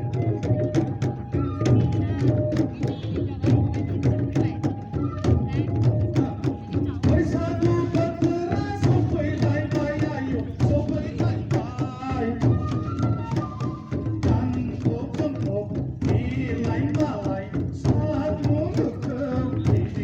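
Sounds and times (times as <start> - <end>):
hand drum beats: 0.0 - 20.0.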